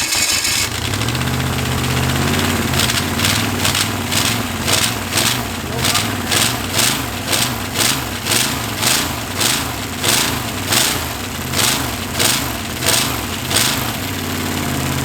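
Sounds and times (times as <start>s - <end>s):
engine cranking with rushing bursts: 0.0s - 15.0s.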